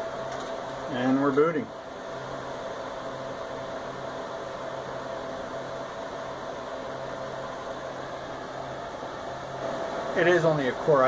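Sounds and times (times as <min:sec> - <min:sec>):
computer cooling fans whirring: 0:00.0 - 0:11.0.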